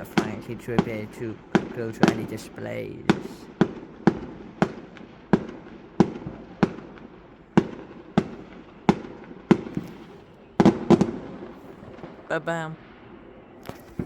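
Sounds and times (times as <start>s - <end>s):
firework bangs: 0.0s - 14.0s.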